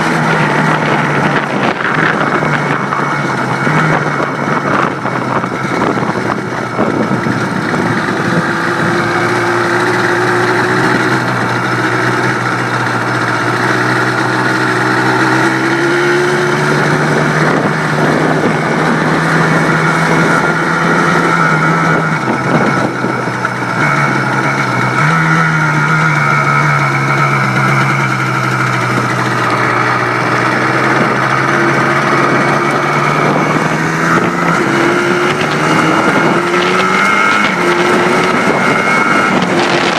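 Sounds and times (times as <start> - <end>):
two-stroke engine running: 0.0 - 39.9.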